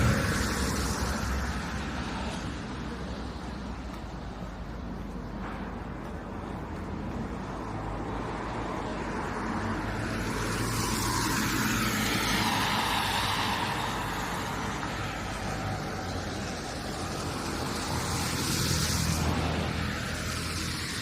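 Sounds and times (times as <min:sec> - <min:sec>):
car passing by: 0:00.0 - 0:04.4, 0:05.3 - 0:21.0
low traffic rumble: 0:00.0 - 0:21.0.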